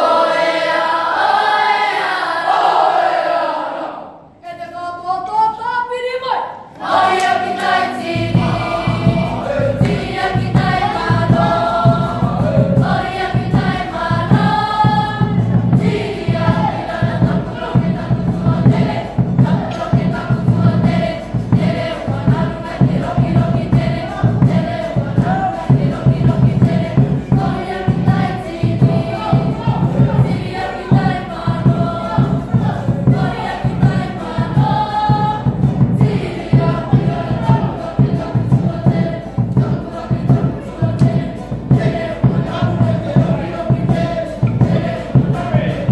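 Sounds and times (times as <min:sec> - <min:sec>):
group singing in chorus: 0:00.0 - 0:04.3, 0:06.6 - 0:45.9
ukuleles strummed: 0:06.8 - 0:45.9.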